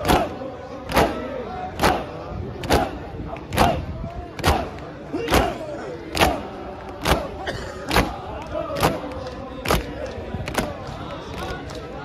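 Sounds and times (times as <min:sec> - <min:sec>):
crowd beating chests: 0:00.0 - 0:12.0
crowd chanting: 0:00.0 - 0:12.0.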